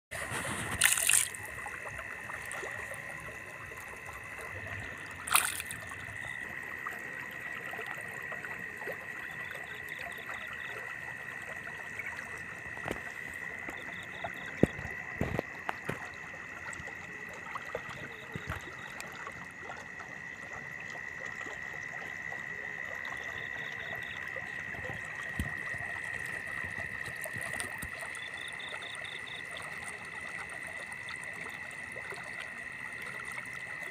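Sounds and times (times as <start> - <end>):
high-pitched insect chorus: 0.2 - 33.9
water trickling: 0.2 - 33.9.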